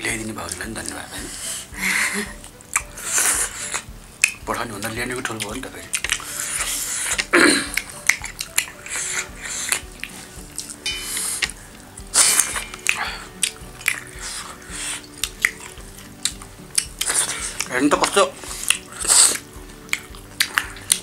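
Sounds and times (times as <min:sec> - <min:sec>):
faint background music: 0:00.0 - 0:21.0
chewing and lip-smacking: 0:02.3 - 0:04.4, 0:05.2 - 0:10.8, 0:11.4 - 0:21.0
fingers squishing food on plate: 0:02.4 - 0:04.4, 0:05.2 - 0:21.0.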